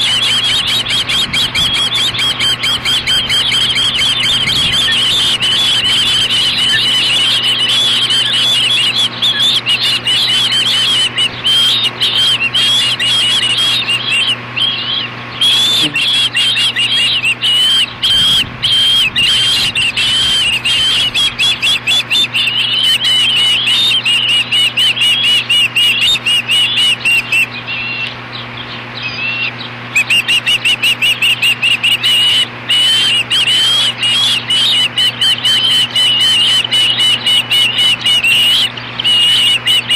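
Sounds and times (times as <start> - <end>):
ospreys chirping: 0.0 - 39.9.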